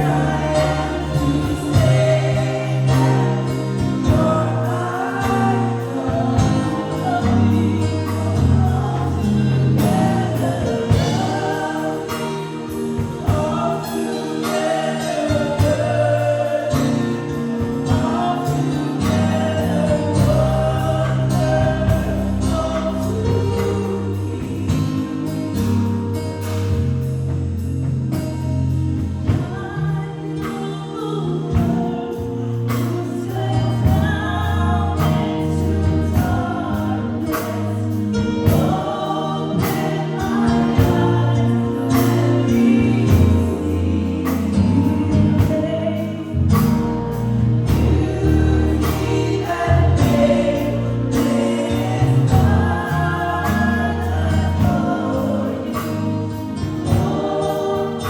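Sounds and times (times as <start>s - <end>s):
gospel choir singing: 0.0s - 58.0s
worship band playing: 0.0s - 58.0s.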